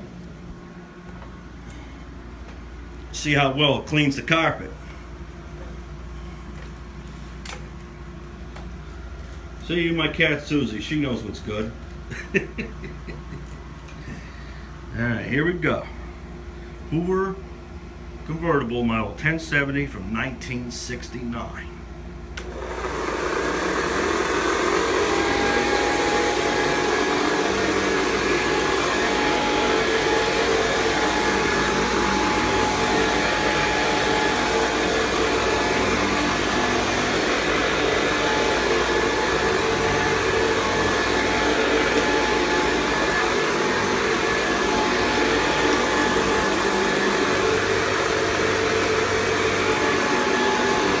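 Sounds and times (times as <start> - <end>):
vacuum cleaner running: 0.0 - 15.6, 22.4 - 51.0.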